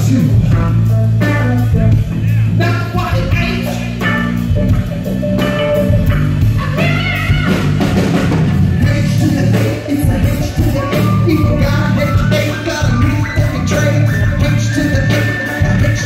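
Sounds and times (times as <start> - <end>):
drum kit: 0.0 - 16.0
electric guitar: 0.0 - 16.0.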